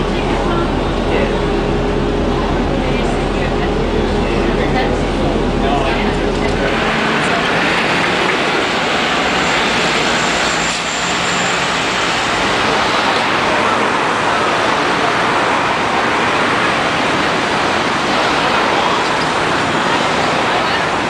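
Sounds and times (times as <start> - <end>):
faint coach engine: 0.0 - 21.0
passing vehicles rushing: 0.0 - 21.0.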